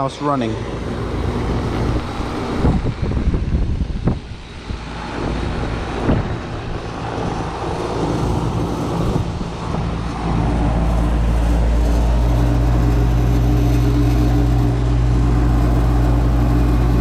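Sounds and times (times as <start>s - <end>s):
compressor hum: 0.0s - 17.0s
condenser fan rushing: 0.0s - 17.0s.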